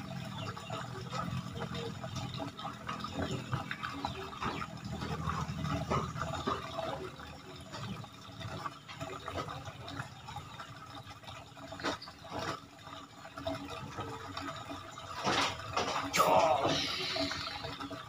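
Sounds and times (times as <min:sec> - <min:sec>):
running water trickling: 0:00.0 - 0:18.0.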